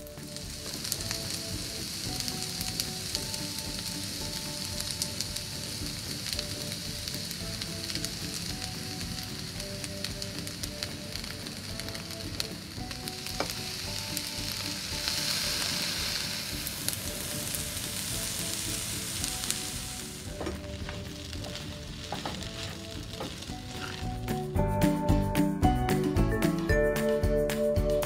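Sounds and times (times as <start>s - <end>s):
rice sizzling in a wok: 0.0s - 26.1s.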